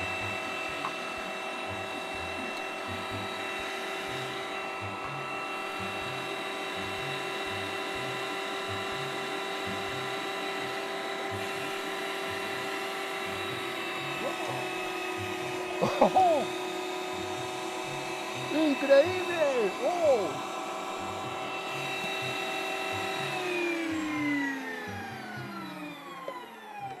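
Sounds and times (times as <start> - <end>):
electric meat grinder running: 0.0 - 27.0.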